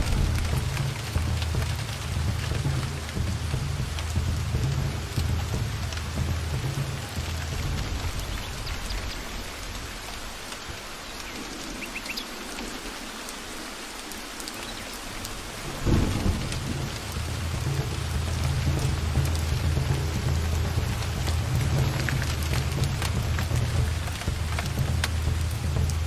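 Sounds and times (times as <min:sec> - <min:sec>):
thunder crack: 0:00.0 - 0:10.6, 0:15.3 - 0:26.0
low rolling thunder: 0:00.0 - 0:11.8, 0:15.1 - 0:26.0
steady rain falling: 0:00.0 - 0:26.0.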